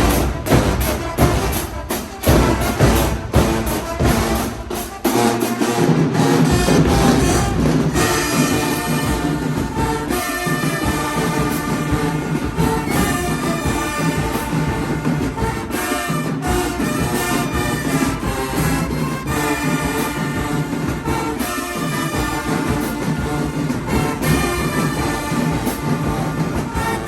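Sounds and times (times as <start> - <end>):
brass horns: 0.0 - 27.0
drumline: 0.0 - 27.0.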